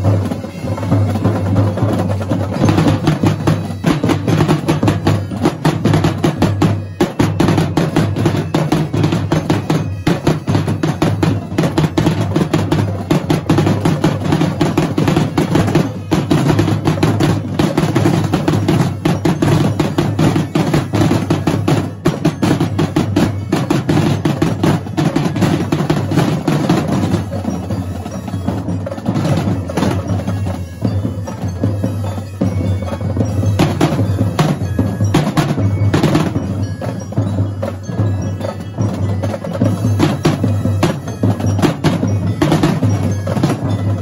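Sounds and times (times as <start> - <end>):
marching drumlines playing: 0.0 - 44.0.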